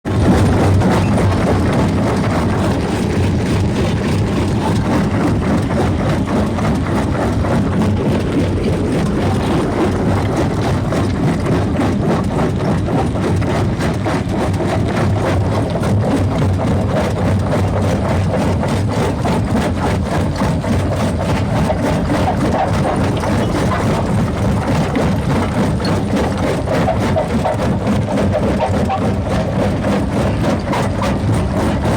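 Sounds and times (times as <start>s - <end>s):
heavy machinery engine droning: 0.0s - 31.9s.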